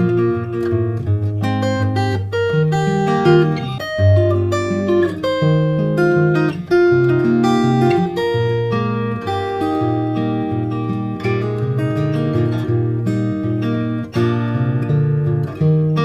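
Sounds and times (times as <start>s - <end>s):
guitar melody with strummed chords: 0.0s - 16.0s.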